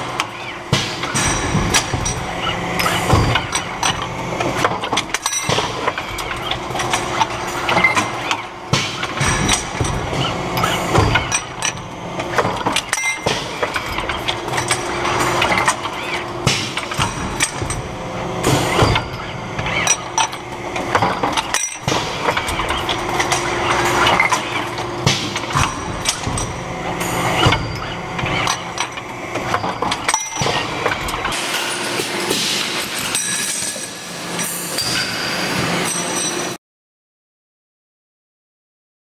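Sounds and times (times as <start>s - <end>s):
assembly machine mechanical din: 0.0s - 36.6s
constant machine hum: 0.0s - 36.6s
sharp metallic clicks and clanks: 0.1s - 35.2s.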